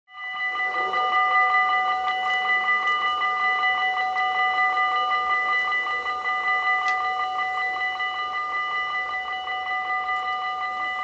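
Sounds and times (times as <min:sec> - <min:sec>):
level crossing warning bells: 0:00.1 - 0:11.0.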